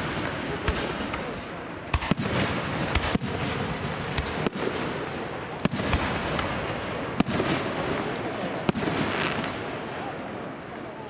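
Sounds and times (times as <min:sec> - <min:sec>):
crackling hiss: 0:00.0 - 0:11.0
fireworks bursting with bangs: 0:00.0 - 0:11.0.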